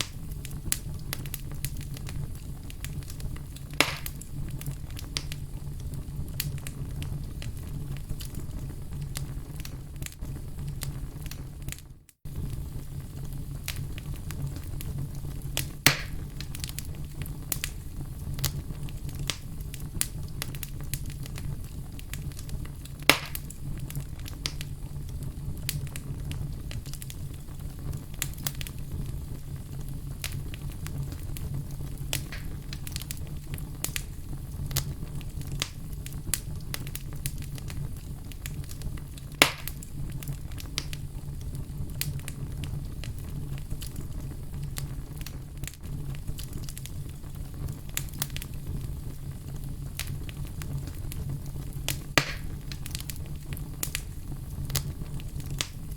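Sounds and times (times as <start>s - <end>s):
fire crackling and popping: 0.0s - 55.9s
flames rumbling: 0.0s - 55.9s.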